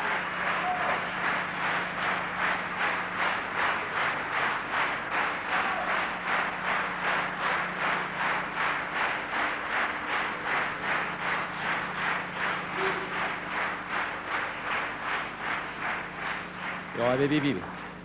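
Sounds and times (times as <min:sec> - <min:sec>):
audience clapping in unison: 0:00.0 - 0:18.0.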